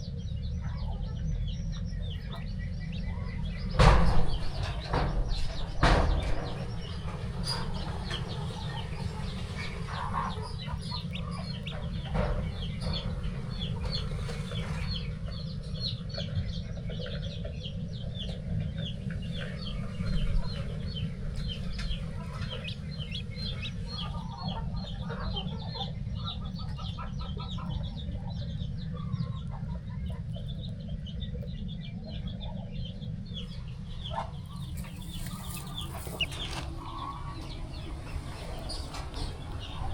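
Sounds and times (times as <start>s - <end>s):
chicks peeping: 0.0s - 39.9s
low rumble: 0.0s - 39.9s
hens clucking: 0.6s - 39.9s.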